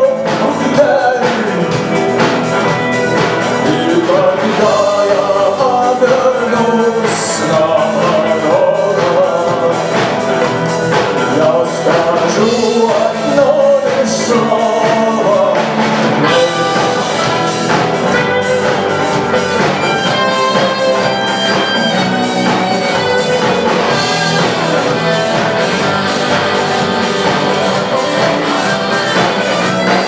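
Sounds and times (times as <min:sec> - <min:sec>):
instrumental rock band: 0:00.0 - 0:30.0.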